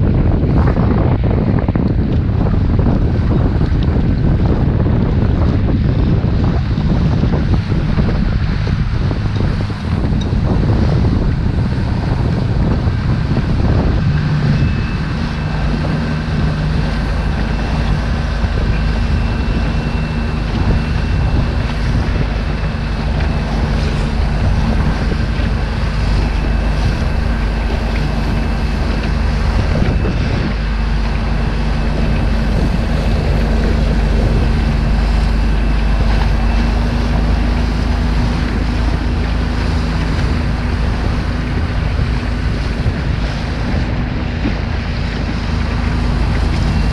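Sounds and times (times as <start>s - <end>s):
outboard motor running: 0.0s - 46.9s
wind buffeting microphone: 0.0s - 46.9s.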